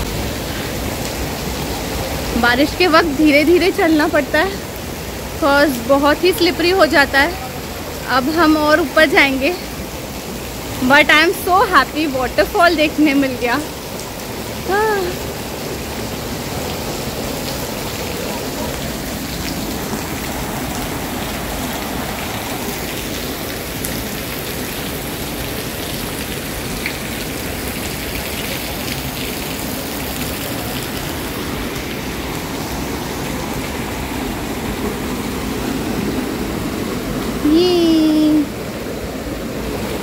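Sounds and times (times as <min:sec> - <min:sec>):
rushing rain and runoff water: 0:00.0 - 0:40.0.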